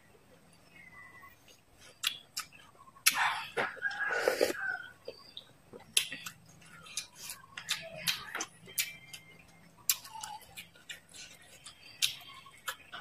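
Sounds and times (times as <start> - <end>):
close chewing with mouth clicks: 1.5 - 13.0.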